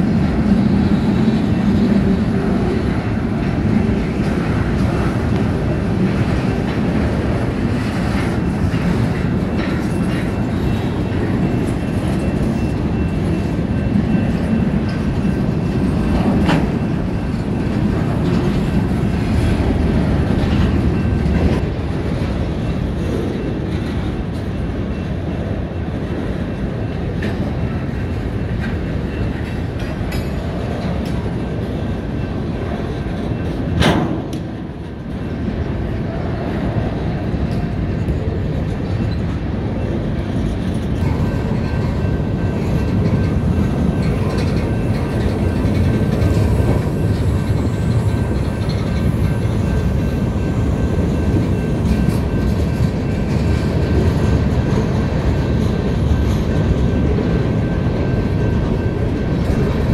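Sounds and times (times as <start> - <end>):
freight train rumbling past: 0.0 - 59.9
wheels clicking over rail joints: 0.1 - 35.6, 36.8 - 59.9.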